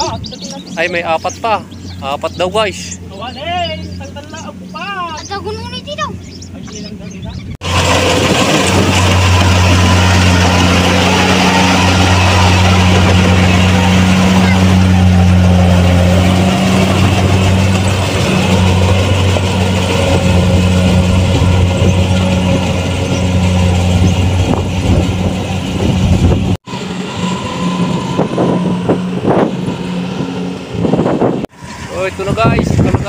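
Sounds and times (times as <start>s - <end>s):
diesel engine humming: 0.0s - 33.0s.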